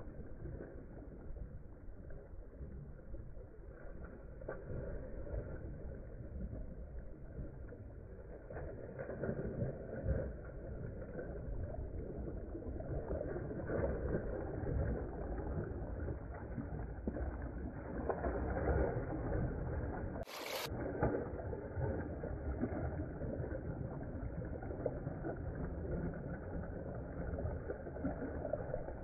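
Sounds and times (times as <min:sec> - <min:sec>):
dog splashing through water: 0:00.0 - 0:29.0
low rumble: 0:00.0 - 0:29.0.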